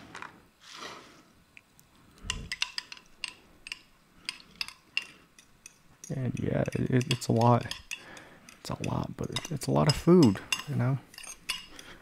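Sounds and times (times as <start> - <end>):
spoon clinking against bowl: 2.3 - 12.0.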